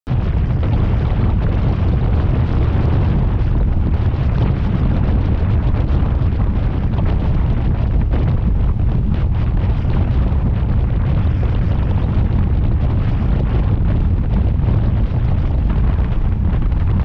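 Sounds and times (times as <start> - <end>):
churning boat wake: 0.1 - 17.0
wind buffeting microphone: 0.1 - 17.0.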